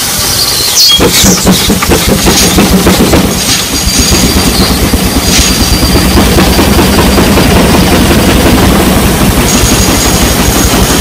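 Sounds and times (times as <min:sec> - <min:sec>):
steam engine working beat: 0:00.0 - 0:11.0.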